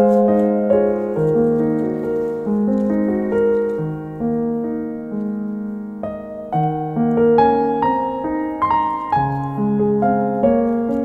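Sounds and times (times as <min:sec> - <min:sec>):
calm piano melody: 0:00.0 - 0:11.0.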